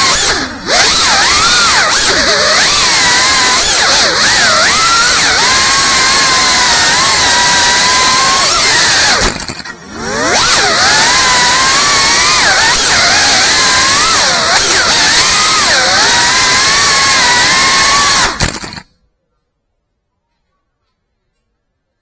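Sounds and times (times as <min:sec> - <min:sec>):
drone propellers whining: 0:00.0 - 0:18.9.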